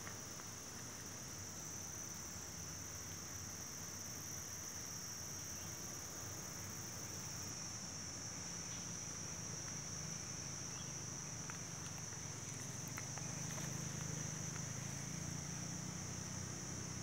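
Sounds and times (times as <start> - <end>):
shrill insect chorus: 0.0 - 17.0.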